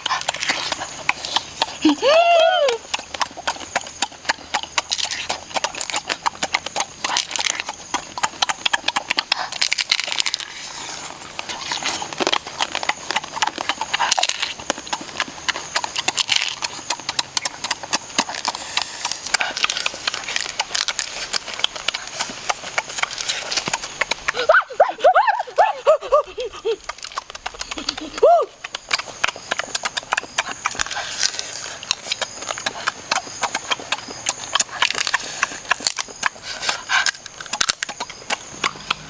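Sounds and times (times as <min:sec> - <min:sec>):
wet lip-smacking and chewing: 0:00.0 - 0:02.1, 0:02.7 - 0:25.0, 0:26.2 - 0:39.0.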